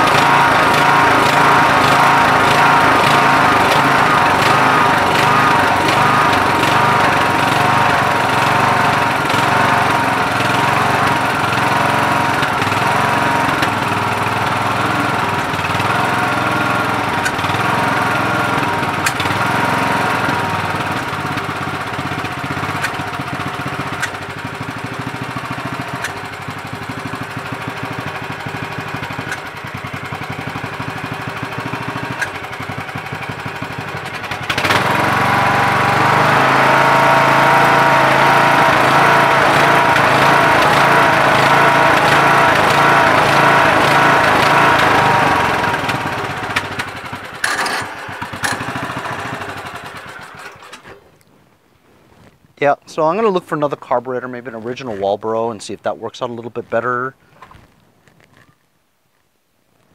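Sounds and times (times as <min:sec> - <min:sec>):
lawn tractor engine surging: 0:00.0 - 0:51.3, 0:52.1 - 0:58.4.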